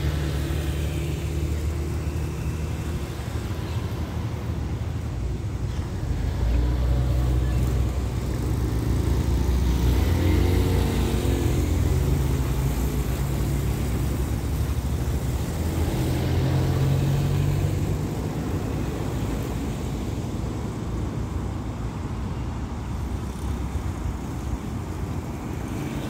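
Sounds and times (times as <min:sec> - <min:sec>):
passing vehicle engine: 0:00.0 - 0:22.3
rumble of distant engines: 0:00.0 - 0:26.0.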